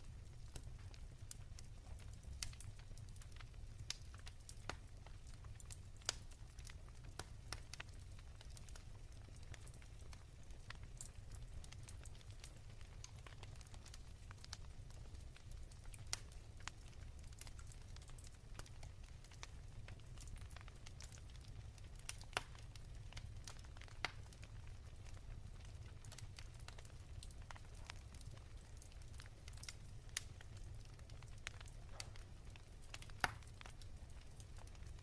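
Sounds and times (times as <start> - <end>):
wood fire crackling softly: 0.0 - 35.0.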